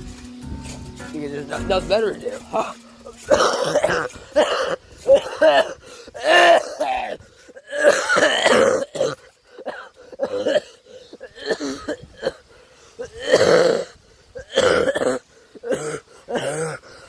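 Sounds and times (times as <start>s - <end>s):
man coughing: 2.1s - 12.4s, 13.0s - 16.8s.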